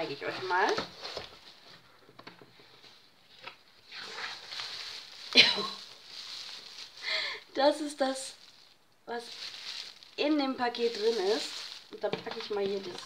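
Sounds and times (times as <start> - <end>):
bubble wrap rustling and crinkling: 0.0 - 2.0, 2.8 - 13.0.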